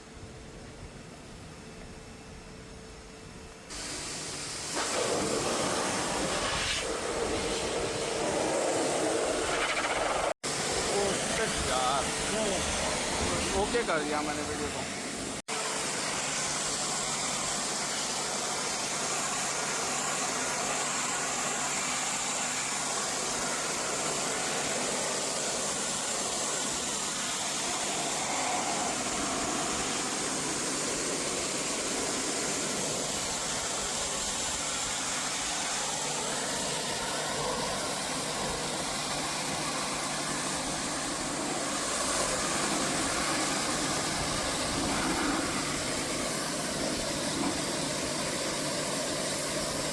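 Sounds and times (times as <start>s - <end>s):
pressure washer motor humming: 3.7s - 49.9s
water spray hiss: 3.7s - 49.9s.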